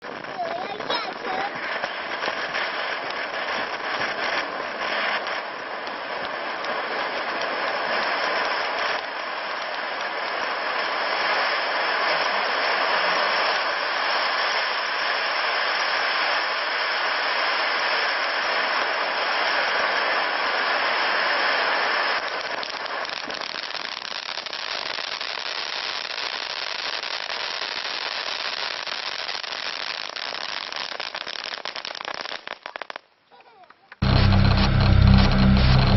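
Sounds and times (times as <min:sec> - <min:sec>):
firework fountain hissing and crackling: 0:00.0 - 0:35.9.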